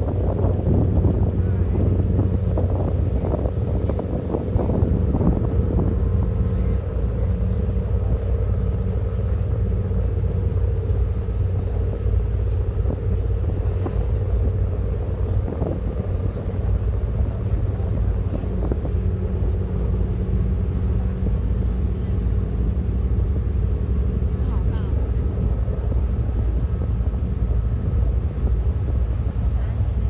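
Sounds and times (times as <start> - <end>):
marine diesel engines rumbling: 0.0 - 30.0.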